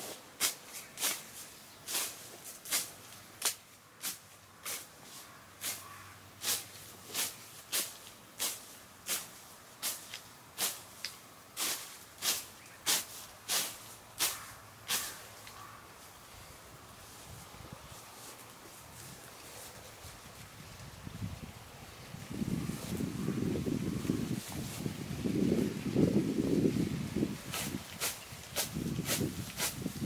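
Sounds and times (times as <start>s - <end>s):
sickle swishing through grass: 0.0s - 16.2s, 17.0s - 30.0s.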